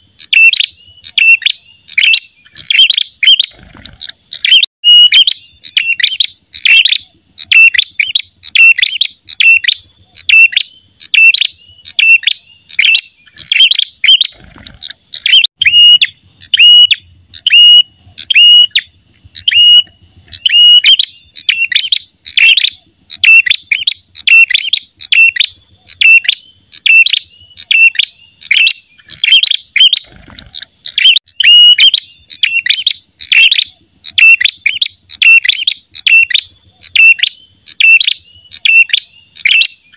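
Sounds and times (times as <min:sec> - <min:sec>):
bird sharp repeated call: 0:00.0 - 0:39.9.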